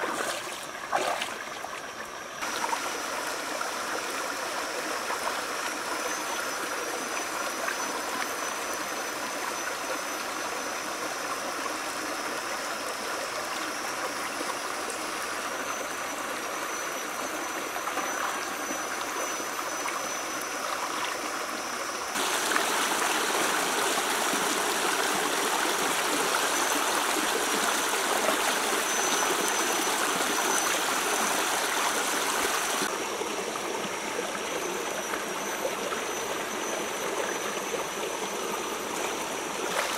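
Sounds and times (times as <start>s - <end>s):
stream water rushing: 0.0s - 12.2s, 17.7s - 39.9s.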